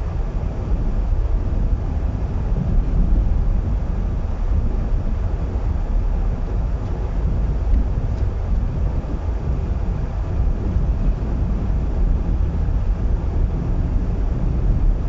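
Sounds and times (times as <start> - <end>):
car road and engine rumble: 0.0 - 15.0
wind buffeting microphone: 0.0 - 15.0.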